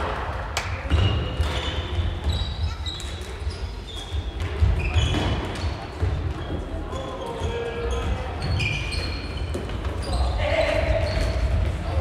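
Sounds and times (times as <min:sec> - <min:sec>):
shoes squeaking on wooden floor: 0:01.4 - 0:11.8.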